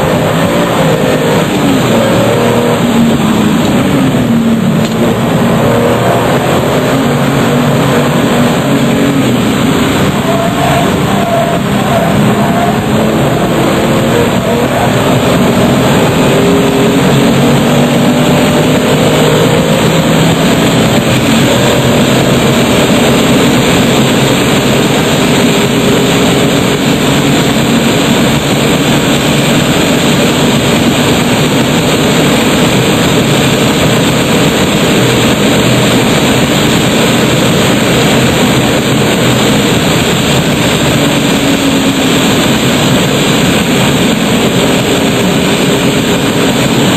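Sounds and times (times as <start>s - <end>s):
car engine running hard: 0.0s - 46.9s
wind and road noise: 0.0s - 46.9s.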